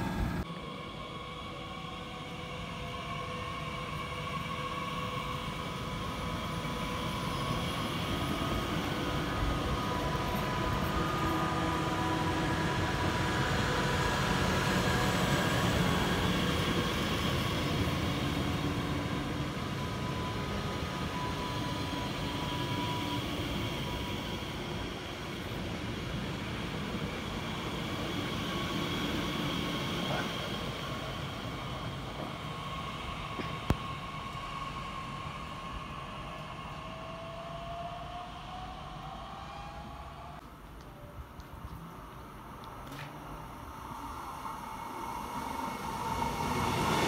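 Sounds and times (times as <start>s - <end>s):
electric train whine: 0.0s - 47.0s
wheels rumbling on rail: 4.0s - 47.0s.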